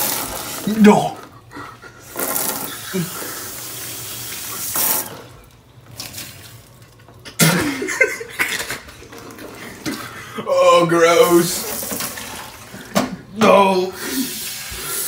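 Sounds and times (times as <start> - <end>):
kitchen faucet running: 0.0 - 7.3, 9.0 - 15.0.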